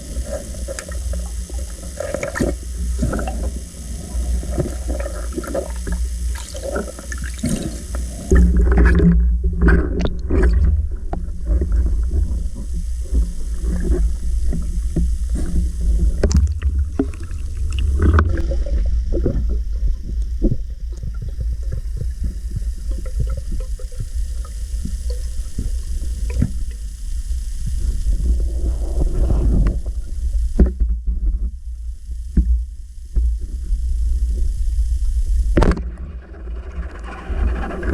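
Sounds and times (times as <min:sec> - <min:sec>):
water gurgling against camera housing: 0:00.0 - 0:31.6.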